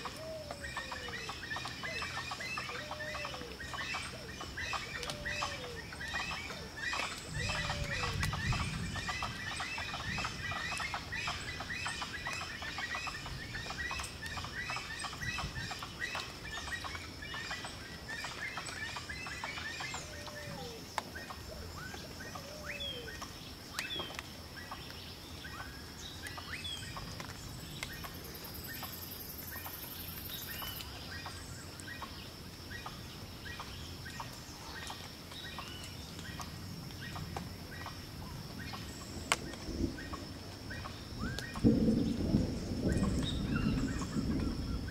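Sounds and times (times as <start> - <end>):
birds chirping: 0.0 - 44.9
falling bird calls: 0.0 - 44.9
high insect whine: 0.0 - 44.9.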